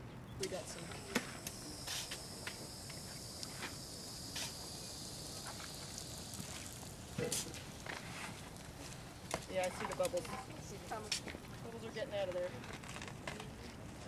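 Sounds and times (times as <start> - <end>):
insects trilling: 0.2 - 11.9.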